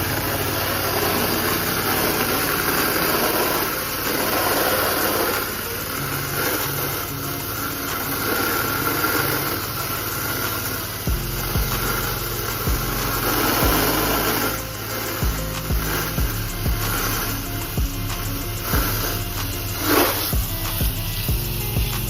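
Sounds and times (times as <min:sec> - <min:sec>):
pressure washer engine running: 0:00.0 - 0:22.0
water spray hissing: 0:00.0 - 0:22.0.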